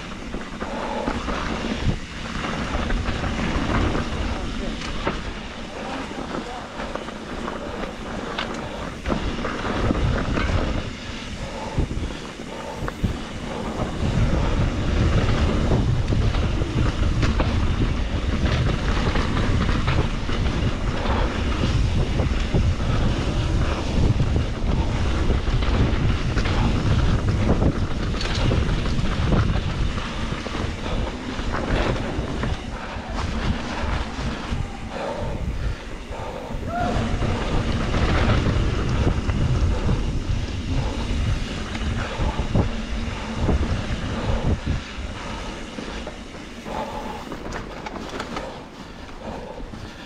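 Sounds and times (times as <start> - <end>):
bike knocking and rattling: 0.0 - 50.0
wind buffeting microphone: 0.0 - 50.0.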